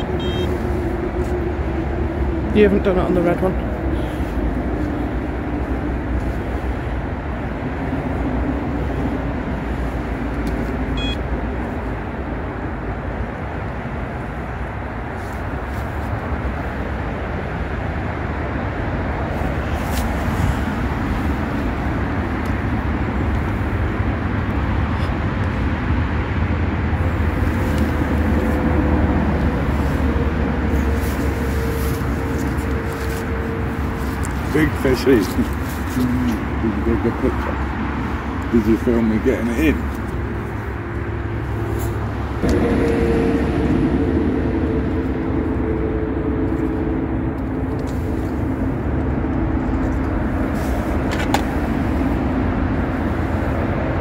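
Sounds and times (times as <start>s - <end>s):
road traffic noise: 0.0s - 54.0s
steady drone: 0.0s - 54.0s.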